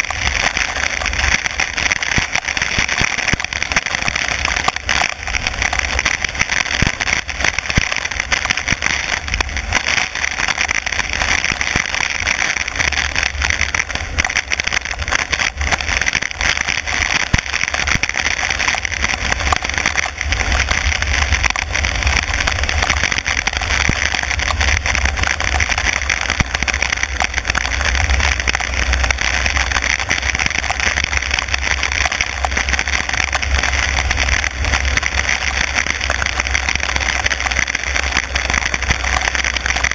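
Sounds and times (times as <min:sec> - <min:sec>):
rain hissing: 0:00.0 - 0:39.9
raindrops ticking: 0:00.0 - 0:39.9
tyres on wet tarmac: 0:00.0 - 0:39.9.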